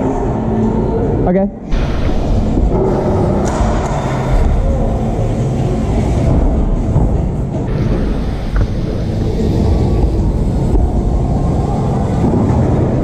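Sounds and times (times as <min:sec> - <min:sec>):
tyre roar on concrete: 0:01.7 - 0:13.0.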